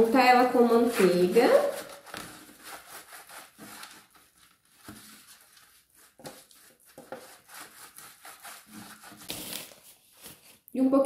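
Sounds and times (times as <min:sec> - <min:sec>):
pastry brush on metal tray: 0:00.0 - 0:10.3.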